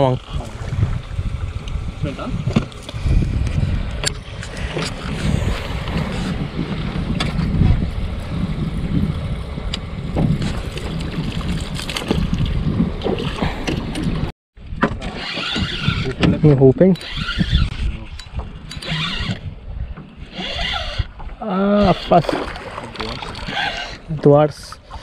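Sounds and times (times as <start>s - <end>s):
wind blowing on microphone: 0.0s - 25.0s.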